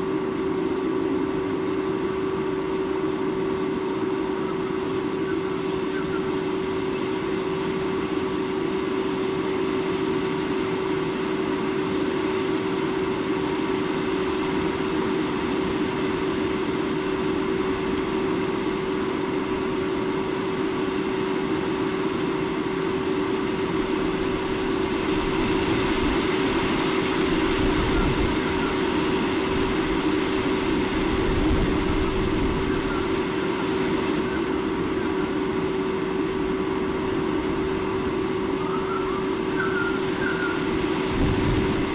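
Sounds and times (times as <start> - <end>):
constant hum: 0.0 - 41.9.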